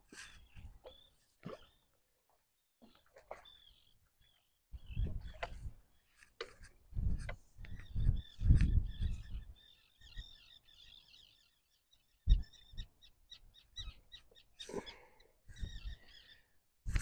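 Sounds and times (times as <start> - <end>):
small birds chirping and trilling: 0.0 - 2.0, 2.8 - 6.4, 7.6 - 17.0.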